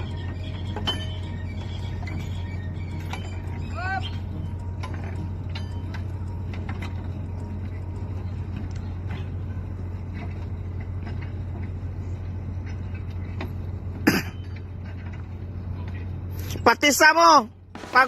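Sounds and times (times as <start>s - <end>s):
low machinery drone: 0.0s - 16.6s.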